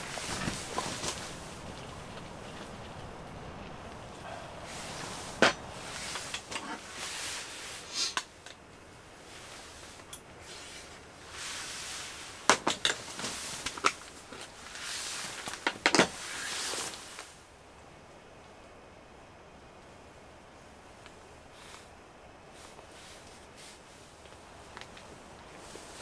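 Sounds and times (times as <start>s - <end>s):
soft rustling: 0.0s - 17.4s, 20.9s - 26.0s.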